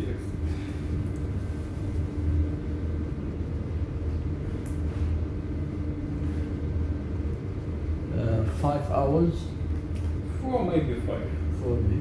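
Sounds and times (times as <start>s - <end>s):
machine humming and rumbling: 0.0s - 12.0s.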